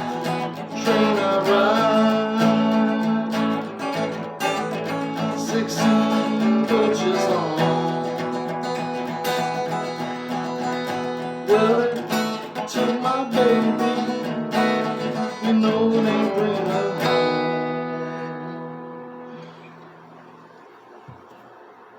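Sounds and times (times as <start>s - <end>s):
acoustic guitar strumming: 0.0s - 20.4s.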